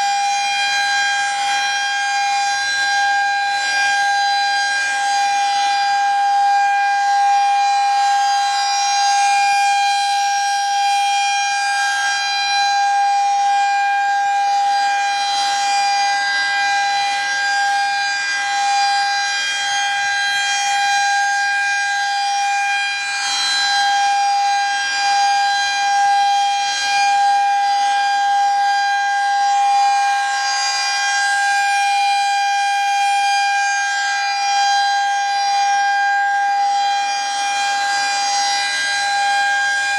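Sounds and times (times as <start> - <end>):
high-pitched warning siren: 0.0 - 39.9.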